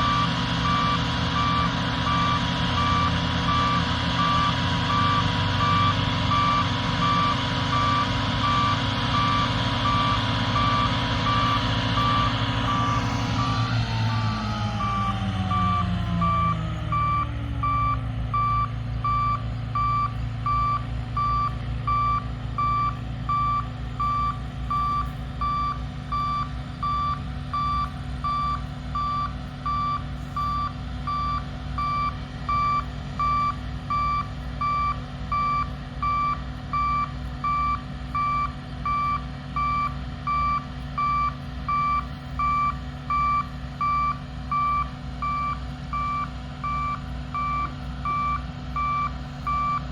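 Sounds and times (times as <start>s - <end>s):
diesel engine running: 0.0s - 49.9s
reversing alarm beeping: 0.0s - 49.9s.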